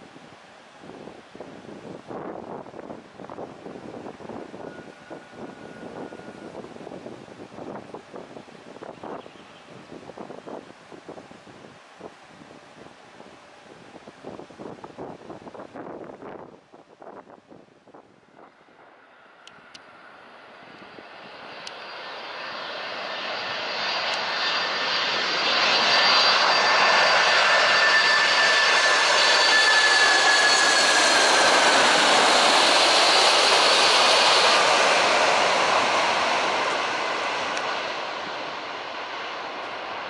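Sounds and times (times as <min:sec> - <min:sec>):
jet engines on approach: 0:00.0 - 0:40.0.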